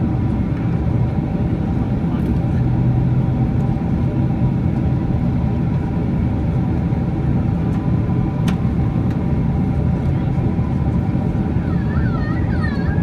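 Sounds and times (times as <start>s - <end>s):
jet engine and airflow rumble: 0.0s - 13.0s.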